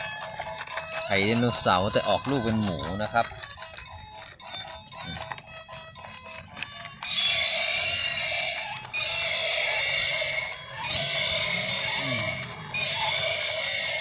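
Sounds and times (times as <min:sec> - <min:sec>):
electronic music from toy speaker: 0:00.0 - 0:14.0
toy soft clicking: 0:00.0 - 0:14.0.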